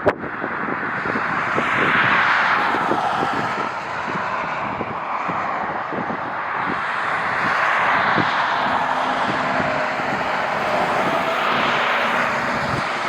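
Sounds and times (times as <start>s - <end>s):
wind buffeting microphone: 0.0s - 13.0s
jet airliner engines rushing: 0.2s - 13.0s.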